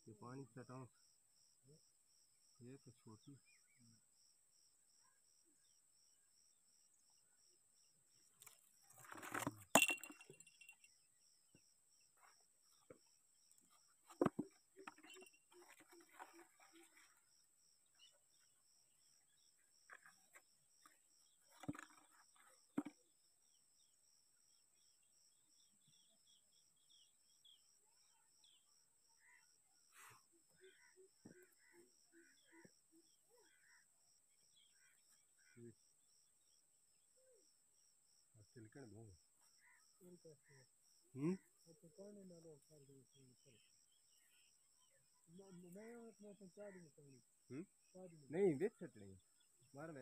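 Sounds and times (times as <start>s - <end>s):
insects chirping: 1.0s - 50.0s.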